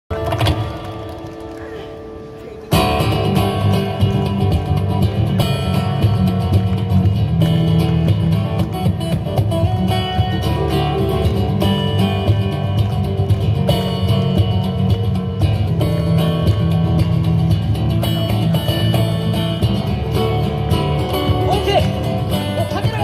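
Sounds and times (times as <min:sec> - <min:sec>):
fingerstyle acoustic guitar: 0:02.7 - 0:23.0.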